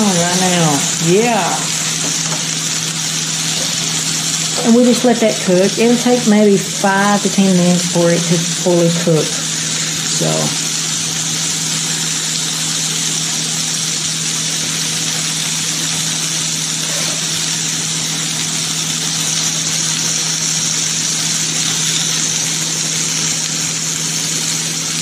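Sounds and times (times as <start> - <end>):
food sizzling in pans: 0.0 - 25.0.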